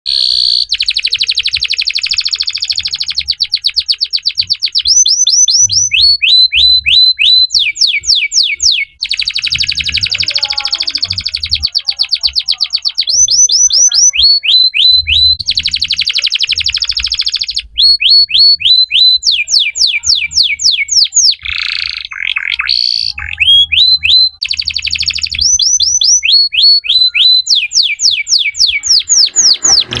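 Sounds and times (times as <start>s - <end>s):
canary singing trills: 0.1s - 30.0s.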